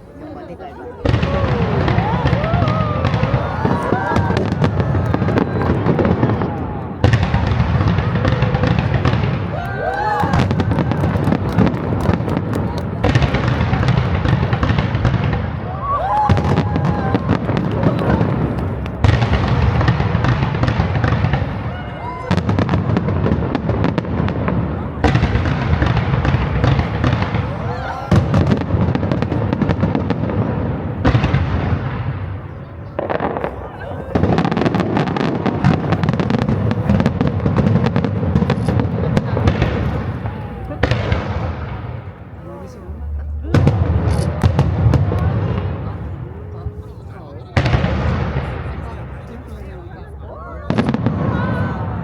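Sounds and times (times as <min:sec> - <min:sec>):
continuous rumble: 0:00.0 - 0:52.0
fireworks crackling and booming: 0:00.0 - 0:52.0.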